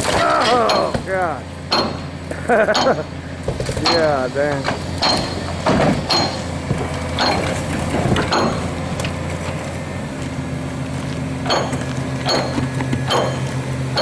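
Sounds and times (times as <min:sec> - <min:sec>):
sharp metallic clanks: 0:00.0 - 0:08.7, 0:11.4 - 0:14.0
excavator engine and hydraulics: 0:00.0 - 0:14.0.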